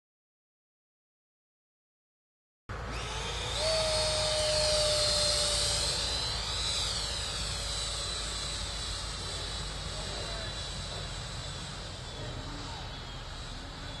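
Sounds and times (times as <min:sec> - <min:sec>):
electric ducted fan whining: 0:02.7 - 0:14.0.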